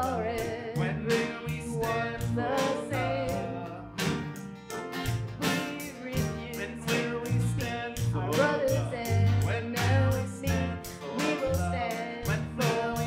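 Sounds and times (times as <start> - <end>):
electric bass: 0.0 - 13.0
grand piano: 0.0 - 13.0
strummed acoustic guitar: 0.0 - 13.0.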